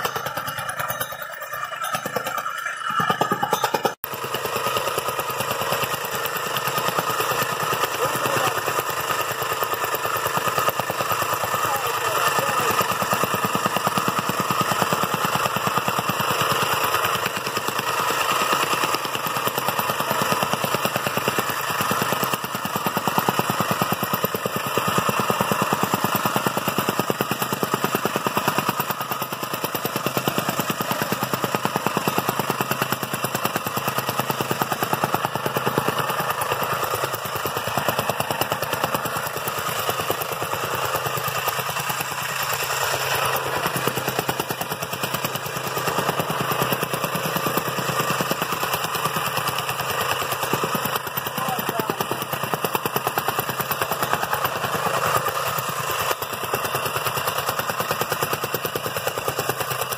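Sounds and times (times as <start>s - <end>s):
tamping rammer pounding gravel: 0.0s - 59.9s.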